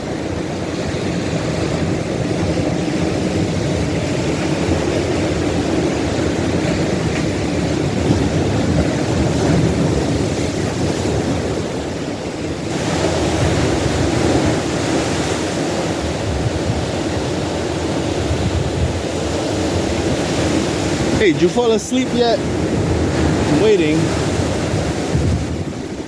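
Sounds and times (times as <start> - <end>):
ocean surf breaking on beach: 0.0 - 26.0.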